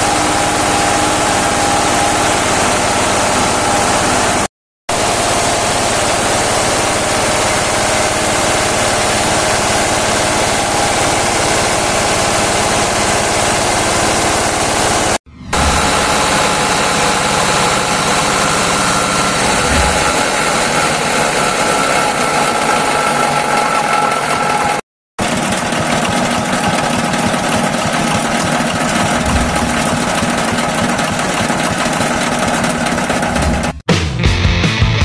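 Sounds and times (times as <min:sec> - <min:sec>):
engine running: 0:00.0 - 0:33.8.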